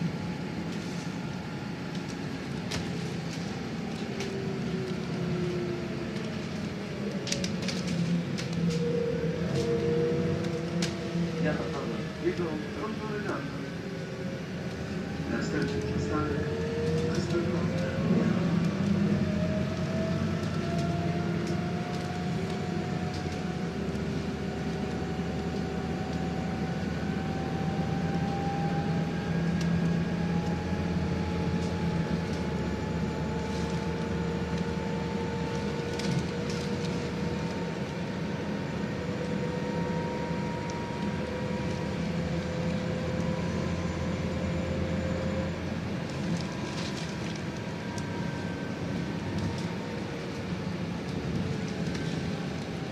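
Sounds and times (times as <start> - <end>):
bus engine hum: 0.0 - 52.9
drivetrain whine: 0.0 - 52.9.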